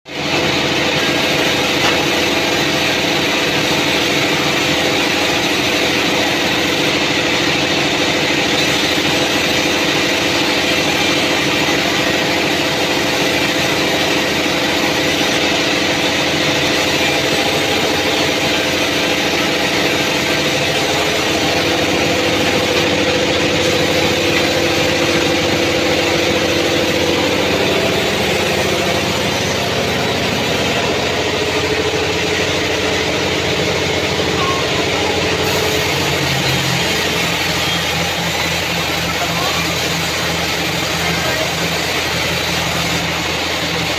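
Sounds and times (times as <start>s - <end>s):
band sawmill mechanical drone: 0.1s - 43.9s.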